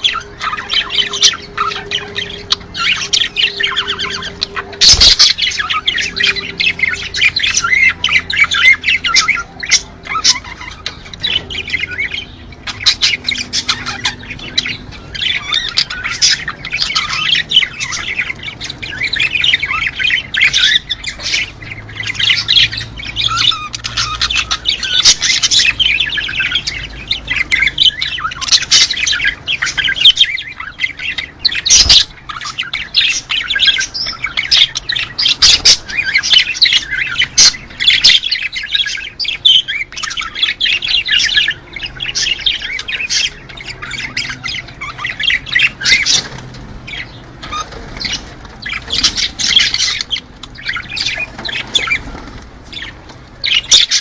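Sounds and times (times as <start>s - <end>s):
budgerigars chattering and warbling: 0.0s - 54.0s.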